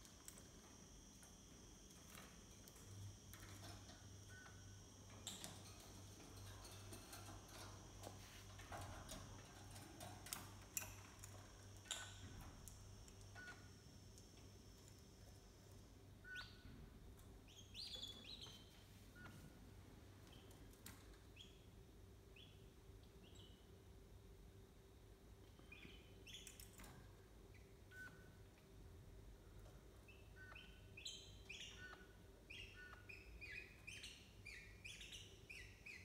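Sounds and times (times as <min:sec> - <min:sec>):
caged birds chirping: 0:00.0 - 0:19.3, 0:20.1 - 0:23.8, 0:25.4 - 0:28.7, 0:29.5 - 0:36.0.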